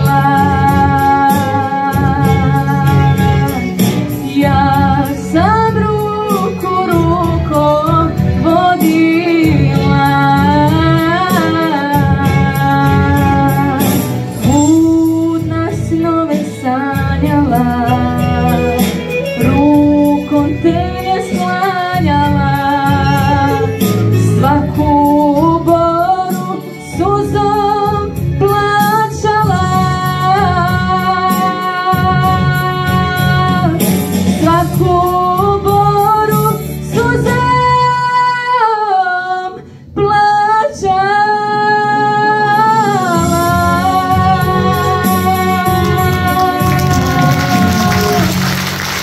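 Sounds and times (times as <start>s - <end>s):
instrumental accompaniment: 0.0s - 38.6s, 40.8s - 49.0s
girl singing into a microphone: 0.0s - 48.3s.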